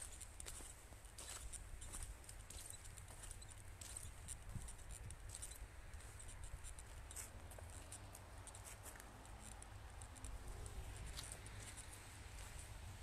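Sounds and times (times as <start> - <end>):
footsteps crunching on frozen snow: 0.0 - 13.0.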